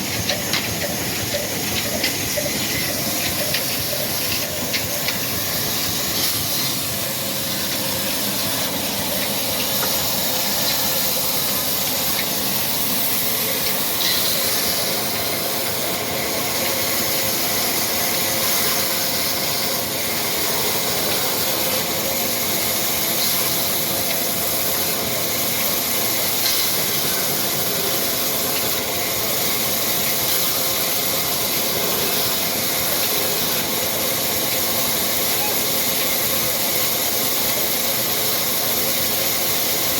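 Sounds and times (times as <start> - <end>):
diesel engine running: 0.0 - 35.3
loud even hiss: 0.0 - 39.9.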